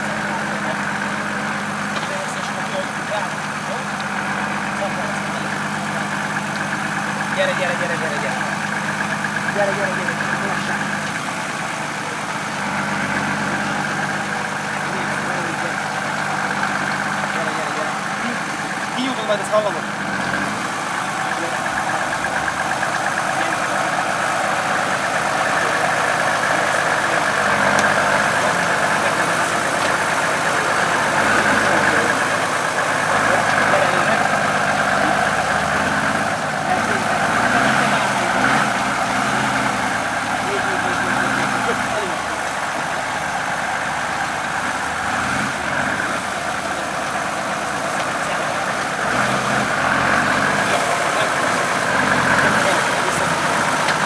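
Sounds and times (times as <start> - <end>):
engine running at low revs: 0.0 - 54.0.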